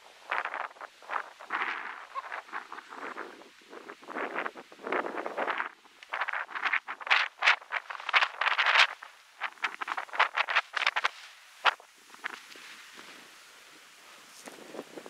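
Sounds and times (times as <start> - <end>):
gusty wind: 0.0 - 15.0
rustling: 0.3 - 14.9.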